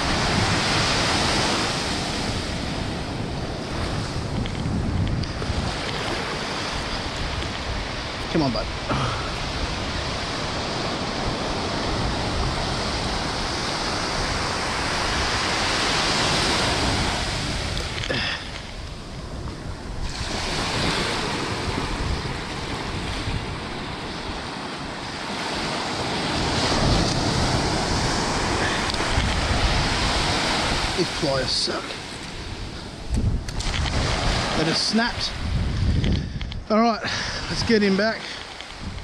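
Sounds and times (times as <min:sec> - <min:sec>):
surf breaking and washing: 0:00.0 - 0:39.0
wind buffeting microphone: 0:00.0 - 0:39.0.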